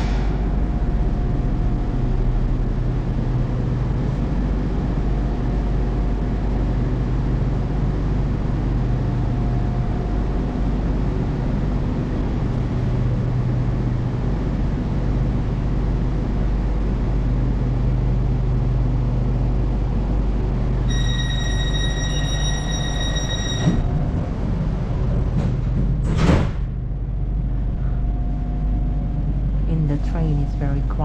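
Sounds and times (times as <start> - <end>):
electric train hum: 0.0 - 31.0.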